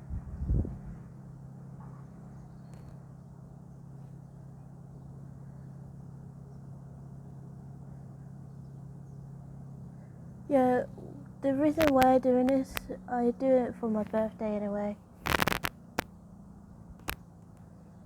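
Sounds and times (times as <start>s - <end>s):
low vehicle hum: 0.0s - 18.0s
outdoor rumble: 0.0s - 18.0s.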